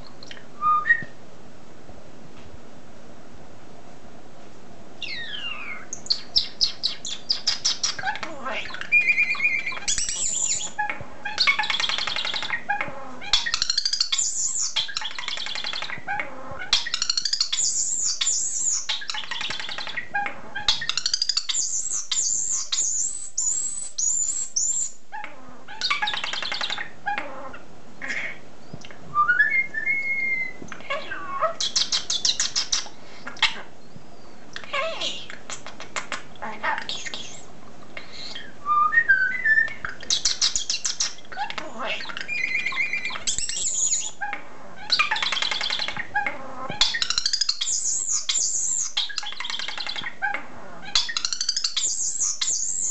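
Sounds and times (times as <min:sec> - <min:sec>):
starling singing: 0:05.0 - 0:52.9.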